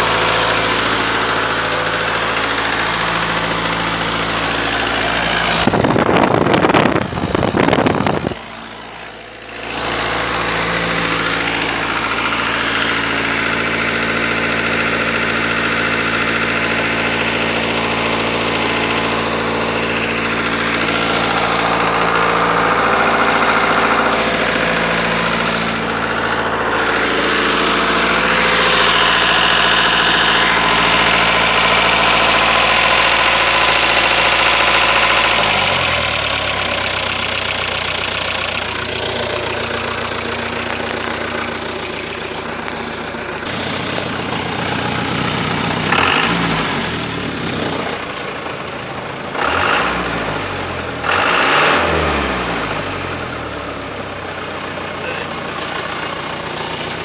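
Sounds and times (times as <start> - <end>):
car engine idling: 0.0 - 57.0
engine revving: 0.0 - 57.0.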